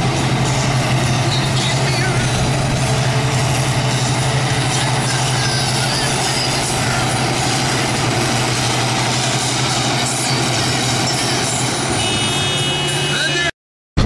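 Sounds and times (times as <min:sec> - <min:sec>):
tractor engine running: 0:00.0 - 0:13.1.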